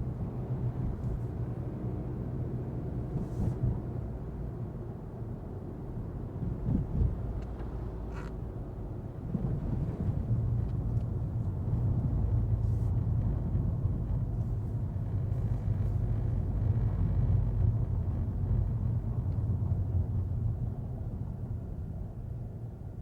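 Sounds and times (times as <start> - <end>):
car driving rumble on wet road: 0.0 - 22.8.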